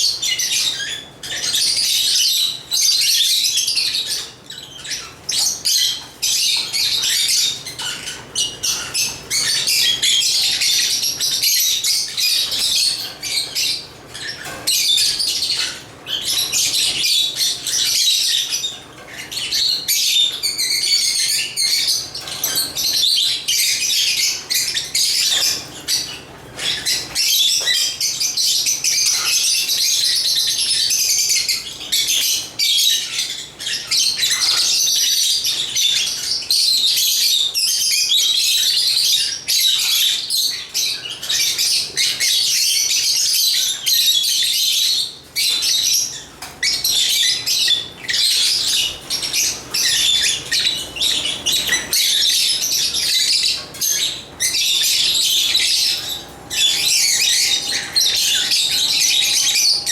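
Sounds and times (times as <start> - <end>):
lovebirds chirping and squawking: 0.0 - 59.9.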